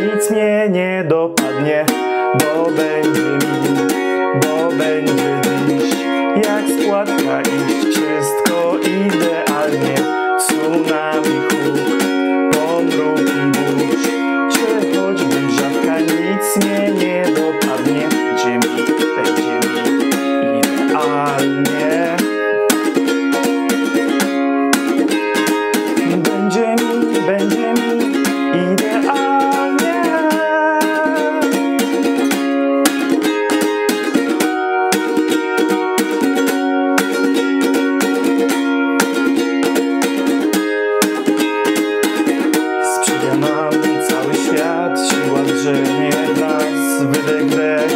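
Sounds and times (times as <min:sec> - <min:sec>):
ukulele strumming chords: 0:00.0 - 0:47.9.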